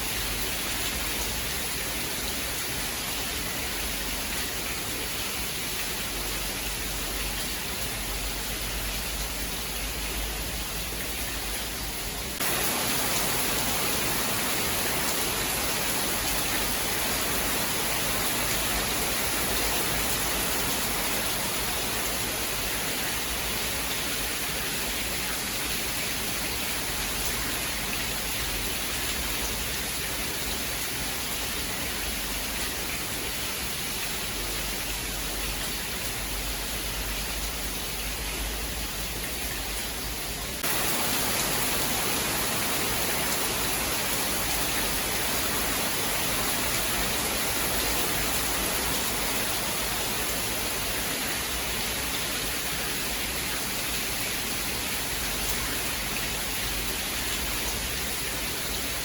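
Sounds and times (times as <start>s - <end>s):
dense rain hiss: 0.0s - 59.0s.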